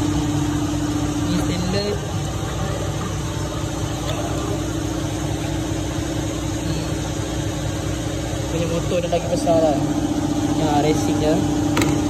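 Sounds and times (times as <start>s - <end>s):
machine running with hum: 0.0s - 12.0s.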